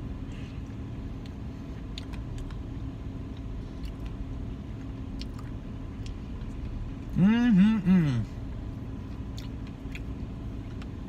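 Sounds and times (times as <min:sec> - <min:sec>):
car idling: 0:00.0 - 0:11.0.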